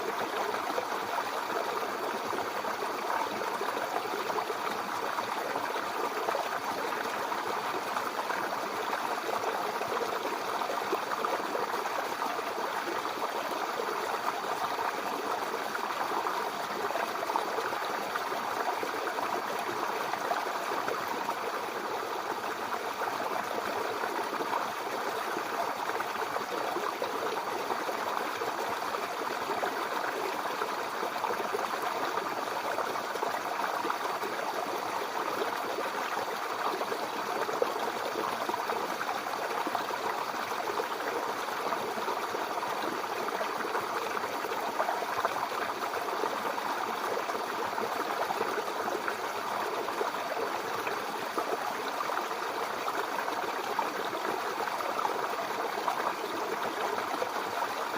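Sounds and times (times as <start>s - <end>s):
brook babbling over stones: 0.0s - 57.9s.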